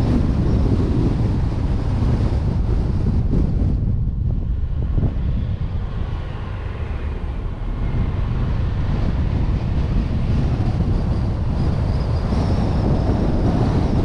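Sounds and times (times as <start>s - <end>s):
car driving: 0.0s - 14.0s
wind rumbling on microphone: 0.0s - 14.0s.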